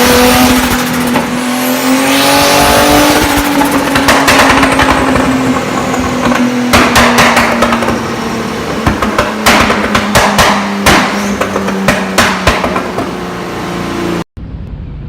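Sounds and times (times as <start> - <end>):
car engine running: 0.0 - 14.3.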